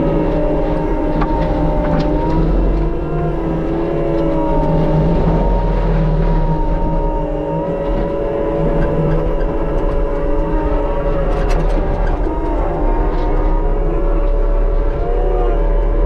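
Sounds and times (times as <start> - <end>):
diesel engine running under load: 0.0 - 16.0
hydraulic mulching head whining: 0.0 - 16.0.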